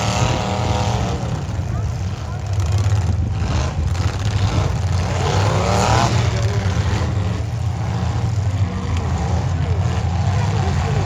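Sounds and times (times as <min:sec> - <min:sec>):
car engines rumbling: 0:00.0 - 0:11.0
engine revving: 0:00.0 - 0:11.0.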